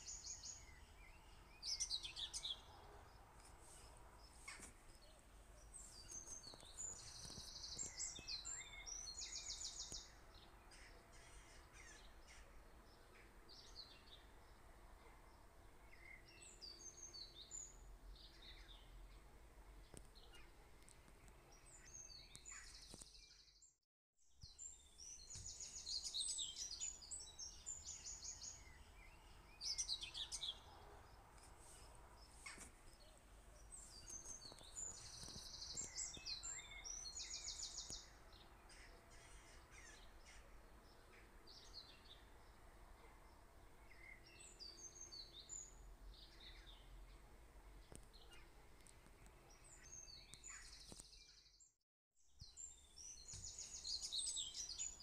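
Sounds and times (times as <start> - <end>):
small birds chirping and trilling: 0.0 - 23.7, 24.4 - 42.6, 43.3 - 51.7, 52.4 - 55.0.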